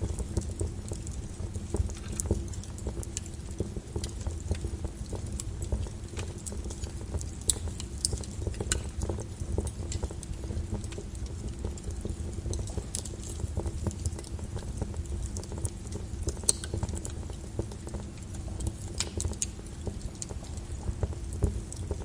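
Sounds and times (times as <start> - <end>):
lava crust cracking: 0.0 - 22.0.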